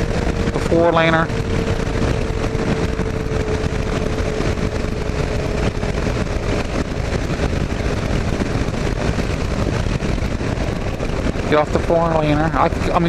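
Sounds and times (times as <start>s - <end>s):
motorcycle at highway speed: 0.0s - 13.0s
wind noise rushing: 0.0s - 13.0s.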